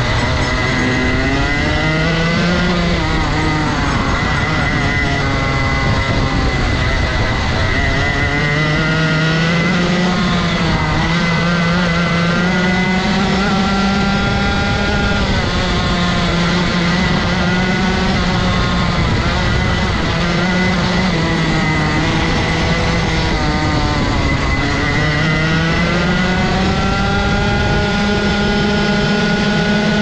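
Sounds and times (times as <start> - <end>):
kart engine revving: 0.0 - 30.0.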